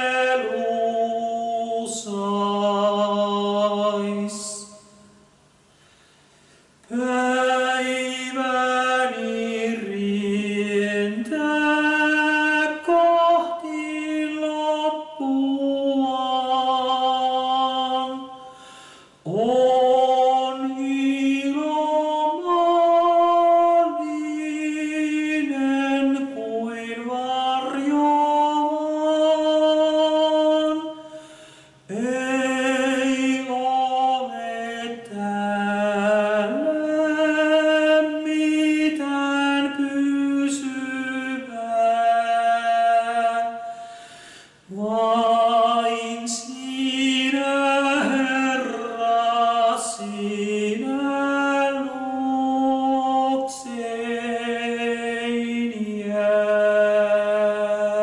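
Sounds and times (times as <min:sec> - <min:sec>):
man singing hymn unaccompanied: 0:00.0 - 0:05.2, 0:06.8 - 0:58.0.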